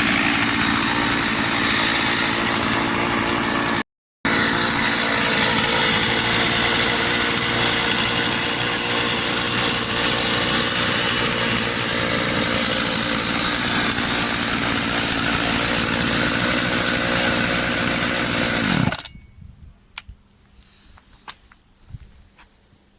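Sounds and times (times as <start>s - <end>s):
chainsaw running at high speed: 0.0s - 19.1s.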